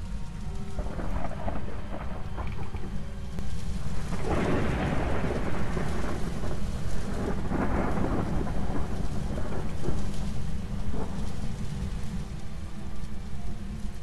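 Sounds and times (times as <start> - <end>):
rain hissing: 0.0 - 14.0
thunder rumble: 0.0 - 14.0.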